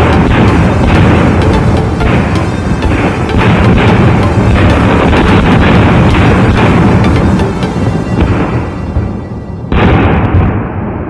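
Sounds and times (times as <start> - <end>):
fireworks bangs and crackle: 0.0 - 11.0.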